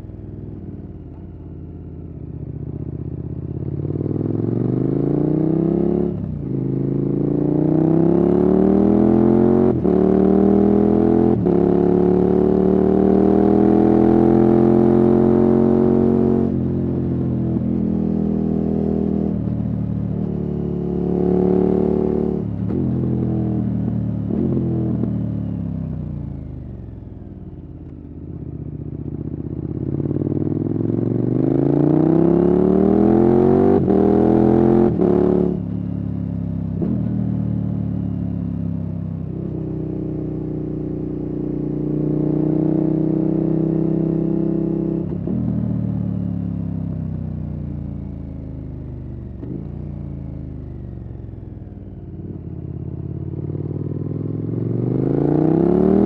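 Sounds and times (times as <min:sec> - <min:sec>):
motorcycle engine revving: 0:03.0 - 0:27.2, 0:28.6 - 0:47.1, 0:49.2 - 0:56.0.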